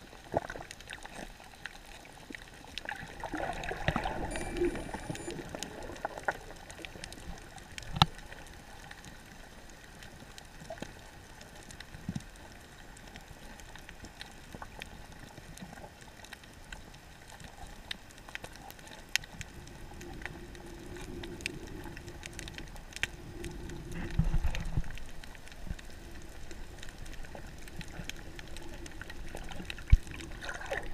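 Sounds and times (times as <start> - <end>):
sharp clicks and crackles: 0.1 - 30.9.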